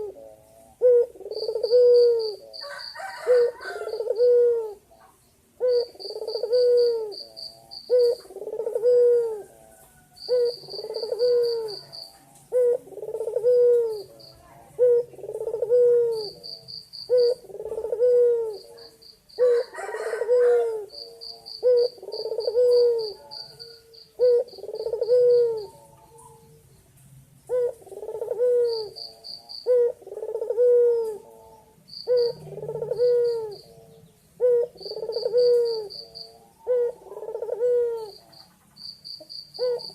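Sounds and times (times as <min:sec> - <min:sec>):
dove cooing: 0:00.0 - 0:26.8, 0:27.4 - 0:39.9.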